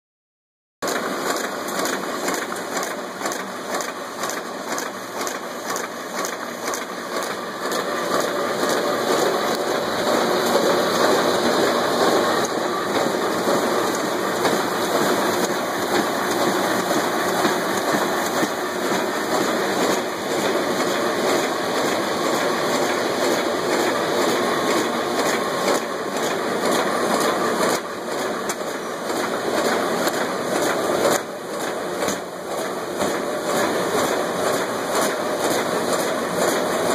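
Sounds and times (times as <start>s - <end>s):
fast mechanical clatter: 0.8s - 36.9s
printing press running: 0.8s - 36.9s.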